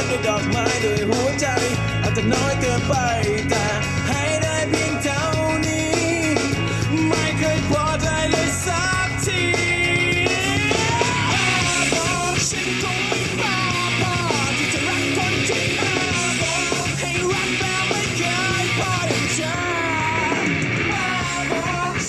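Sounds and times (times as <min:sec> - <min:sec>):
rock song with singer and band: 0:00.0 - 0:22.0.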